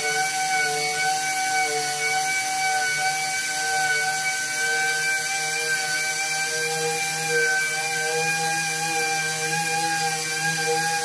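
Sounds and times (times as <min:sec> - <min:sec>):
palm sander whining: 0:00.0 - 0:11.0.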